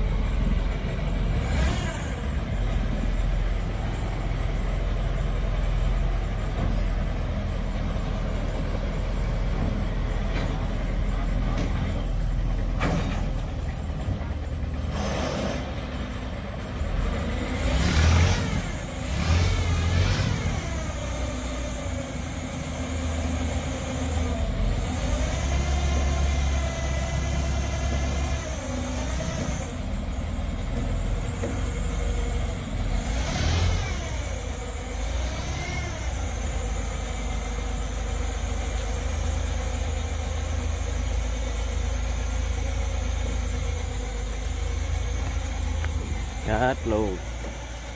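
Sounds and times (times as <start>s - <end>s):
engine rumbling: 0.0s - 47.9s.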